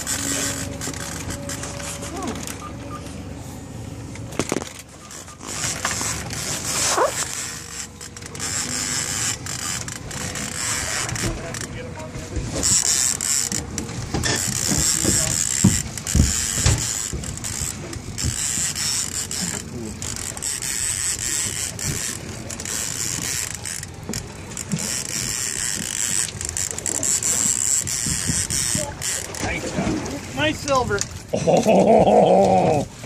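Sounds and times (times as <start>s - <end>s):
fishing reel whirring: 0.0s - 3.2s, 4.4s - 11.7s, 12.6s - 29.7s.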